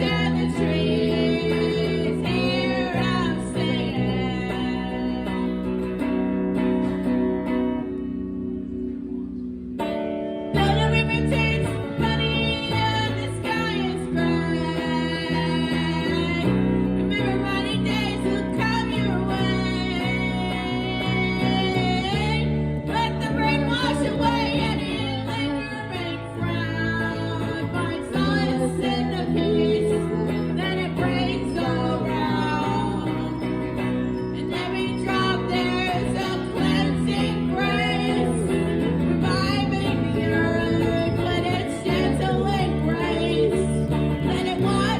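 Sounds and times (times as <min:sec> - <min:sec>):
woman singing: 0:00.0 - 0:07.9, 0:10.5 - 0:44.9
blues guitar chords: 0:00.0 - 0:44.9.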